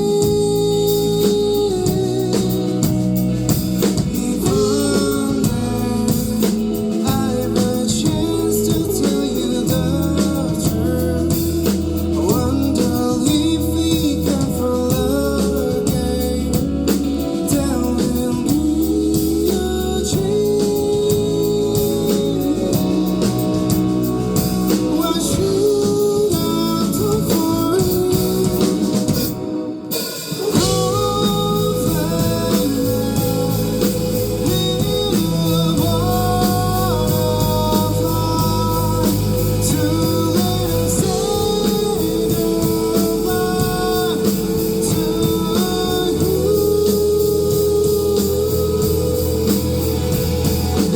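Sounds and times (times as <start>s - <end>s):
person singing: 0.0s - 50.9s
rock band playing live: 0.0s - 50.9s.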